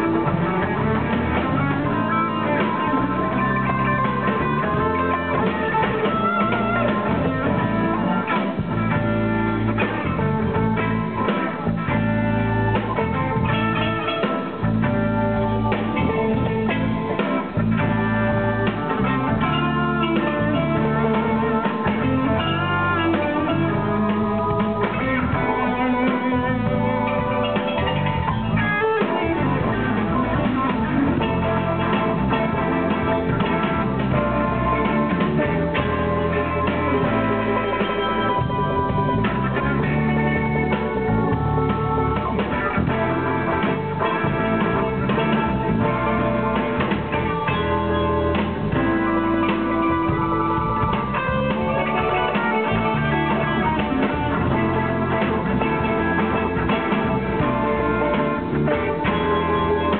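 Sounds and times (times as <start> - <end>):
blues electric guitar lead: 0.0 - 59.9
live band playing instrumental: 0.0 - 59.9.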